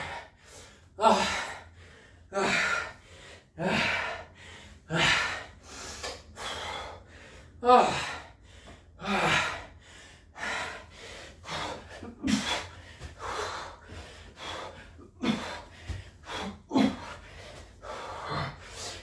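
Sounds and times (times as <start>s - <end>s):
man breathing hard and gasping: 0.0s - 19.0s.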